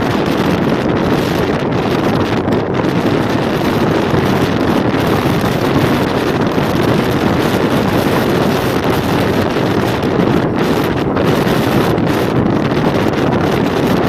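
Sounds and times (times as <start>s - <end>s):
electric train rumbling: 0.0s - 14.0s
wind buffeting microphone: 0.0s - 14.0s.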